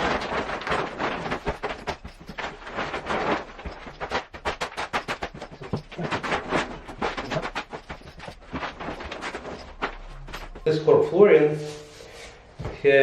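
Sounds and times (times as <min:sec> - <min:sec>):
flooring materials clicking and knocking: 0:00.0 - 0:10.7.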